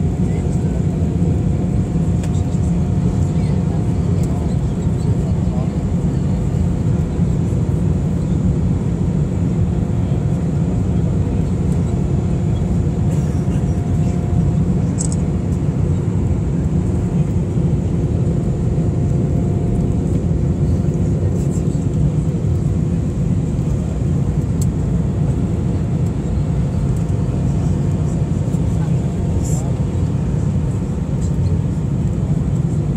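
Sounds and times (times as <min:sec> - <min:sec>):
airliner cabin rumble: 0:00.0 - 0:32.9.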